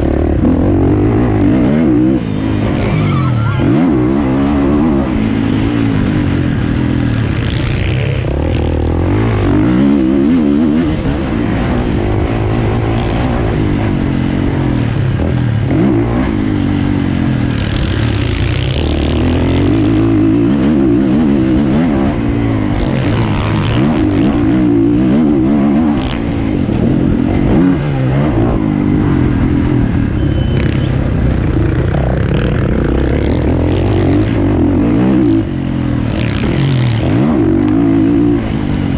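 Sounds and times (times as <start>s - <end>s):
motocross bike engine revving: 0.0s - 29.4s, 30.6s - 38.9s.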